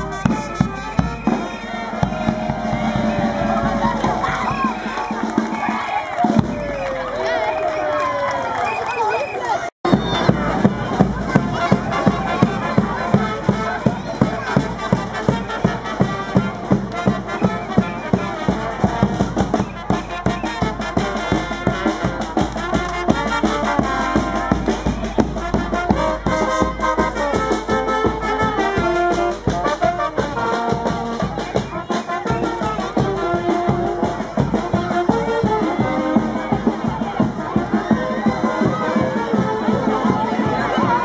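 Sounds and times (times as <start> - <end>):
bass drum beat: 0.0 - 6.9, 9.8 - 41.0
trumpets and trombones: 0.0 - 7.7, 9.8 - 41.0.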